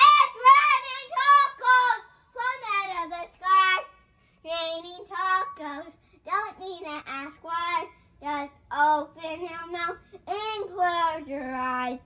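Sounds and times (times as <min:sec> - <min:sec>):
boy singing: 0:00.0 - 0:12.0.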